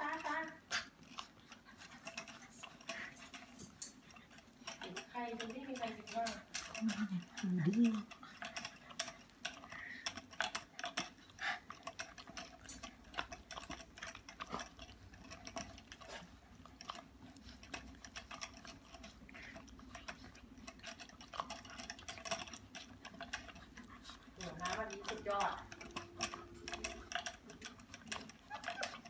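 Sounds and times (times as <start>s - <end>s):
puppies licking metal spout: 0.0s - 29.0s.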